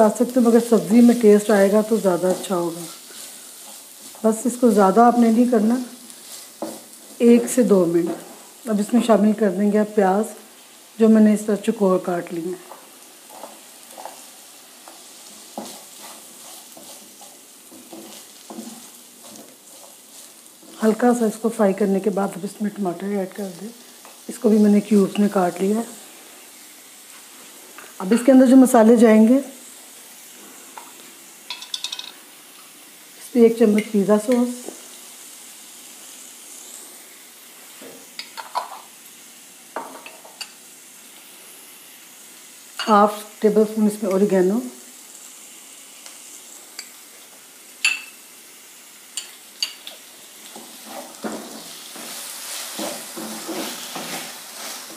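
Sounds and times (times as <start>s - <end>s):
vegetables sizzling in oil: 0.0s - 54.9s.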